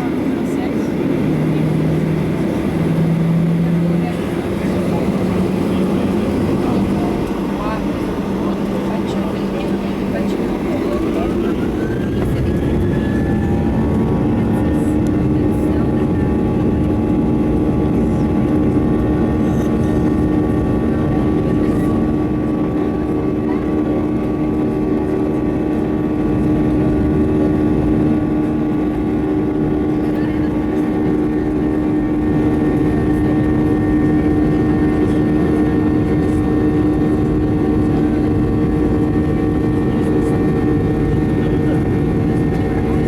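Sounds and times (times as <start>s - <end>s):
jet engines heard from cabin: 0.0s - 43.0s.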